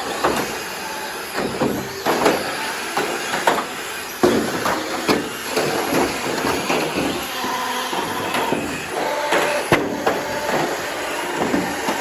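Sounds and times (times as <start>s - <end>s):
toy car motors running: 0.0s - 12.0s
toy cars crashing: 0.0s - 12.0s.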